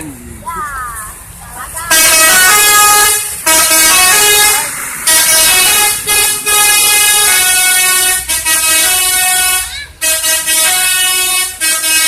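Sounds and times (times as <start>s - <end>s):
multi-tone bus horn playing a tune: 1.7s - 12.0s.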